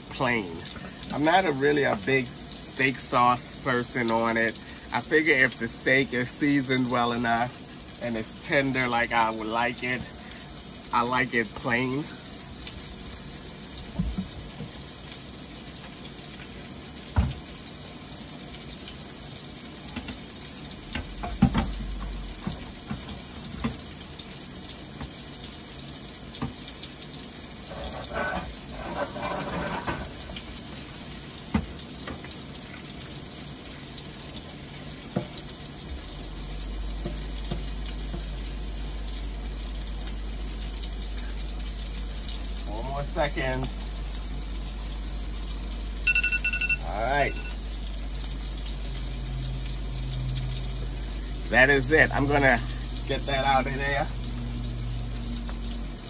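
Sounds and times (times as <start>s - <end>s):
steak sizzling in a frying pan: 0.0s - 56.0s.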